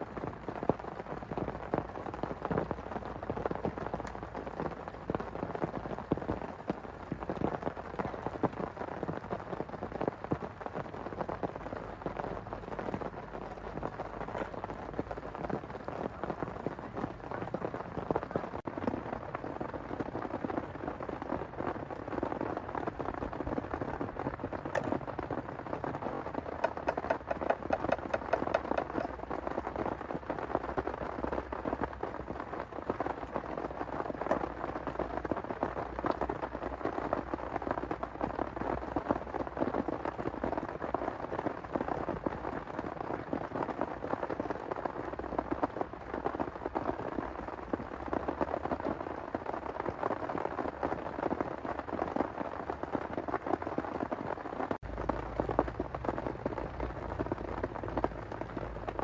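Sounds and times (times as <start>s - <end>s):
heavy rain falling: 0.0s - 59.0s
sharp loud rain taps: 0.0s - 59.0s.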